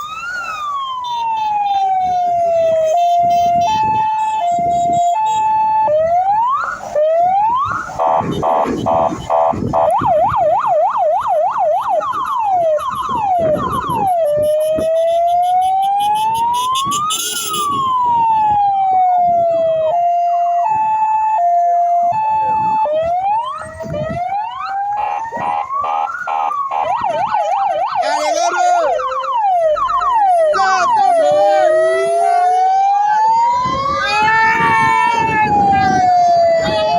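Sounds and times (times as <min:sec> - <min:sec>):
fire engine sirens: 0:00.0 - 0:36.9.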